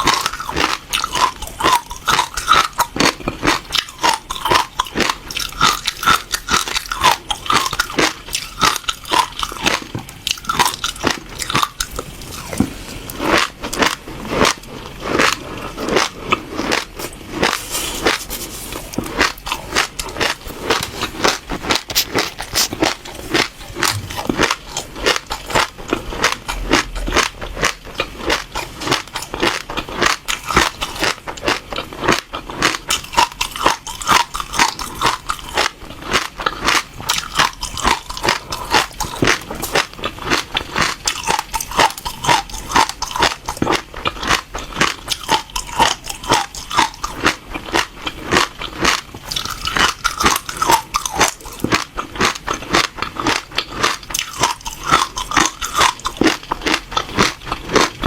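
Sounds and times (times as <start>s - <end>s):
seeds crunched between teeth: 0.0s - 58.0s.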